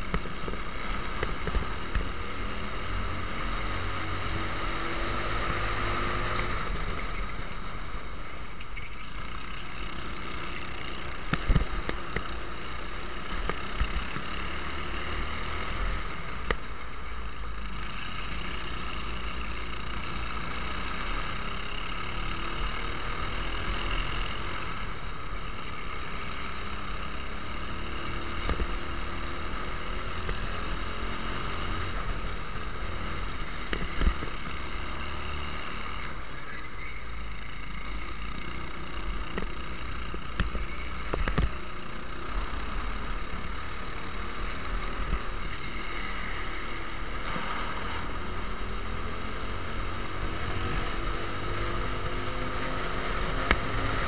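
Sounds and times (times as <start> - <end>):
kart engine running: 0.0 - 54.0.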